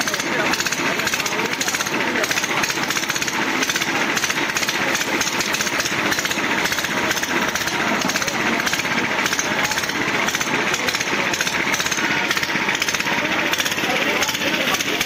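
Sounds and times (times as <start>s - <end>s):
engine clattering: 0.0s - 15.0s.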